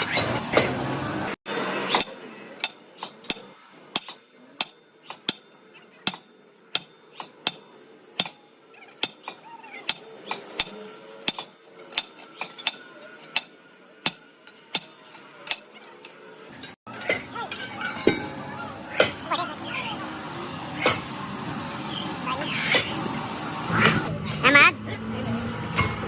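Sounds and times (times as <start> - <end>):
busy workshop noise: 0.0 - 26.0.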